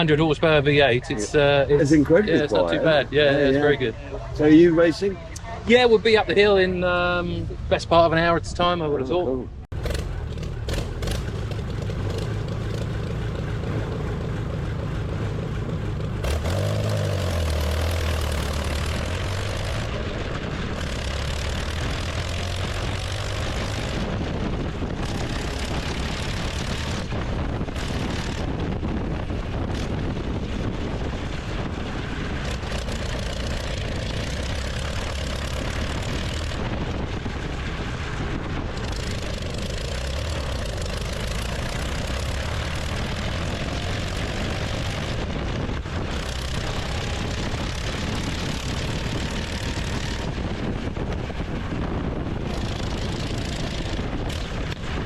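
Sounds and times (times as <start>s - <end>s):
old car engine running: 9.7s - 55.0s.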